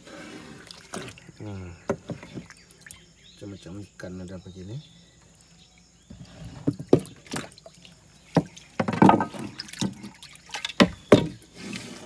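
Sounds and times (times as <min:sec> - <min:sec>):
water splashing and dripping: 0:00.4 - 0:03.8, 0:05.2 - 0:11.7.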